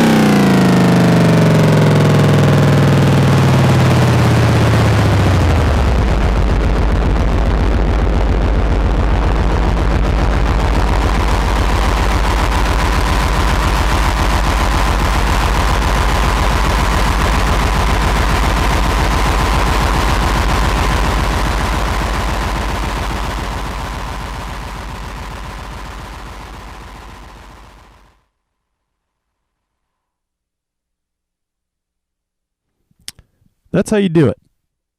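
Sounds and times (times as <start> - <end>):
low synth drone: 0.0 - 28.1
fast stutter of synth pulses: 0.0 - 28.2.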